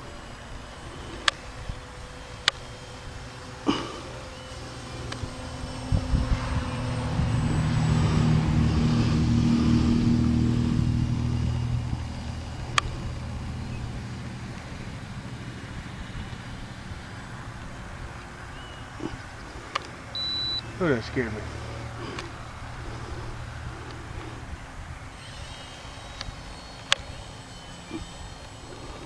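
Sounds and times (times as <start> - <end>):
model plane motor droning: 0.0 - 29.0.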